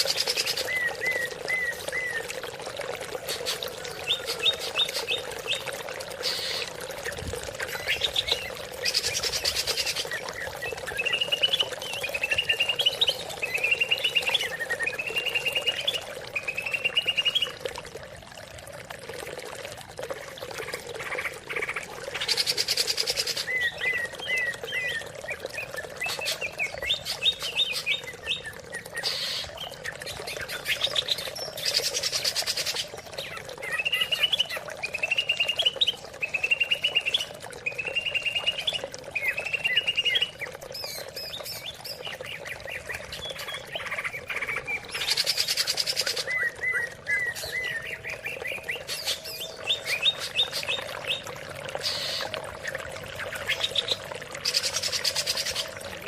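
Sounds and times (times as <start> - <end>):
running water: 0.0 - 56.0.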